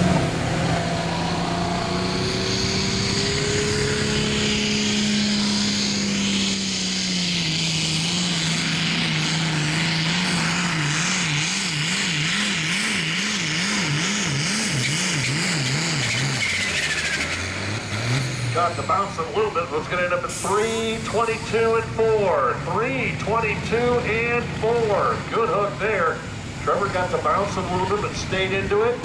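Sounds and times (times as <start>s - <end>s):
tractor diesel engine at full throttle: 0.0s - 29.0s.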